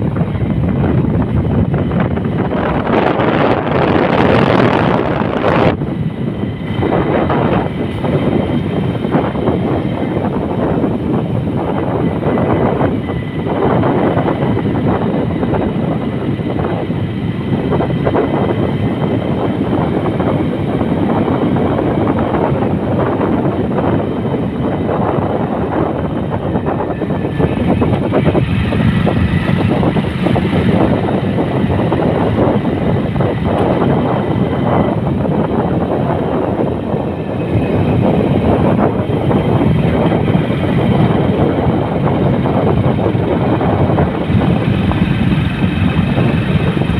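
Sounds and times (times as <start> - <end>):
vehicle driving on road: 0.0 - 46.9.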